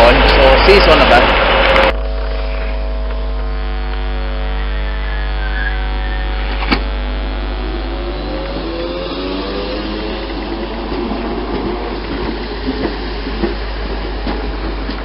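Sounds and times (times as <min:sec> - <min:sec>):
electric train humming: 0:00.0 - 0:15.0
traction motors whining: 0:00.0 - 0:15.0.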